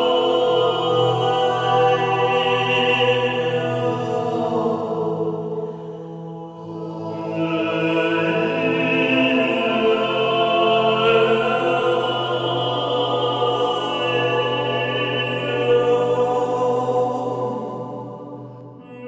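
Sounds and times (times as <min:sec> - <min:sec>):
choral voices chanting: 0:00.0 - 0:19.0
low musical drone: 0:00.0 - 0:19.0.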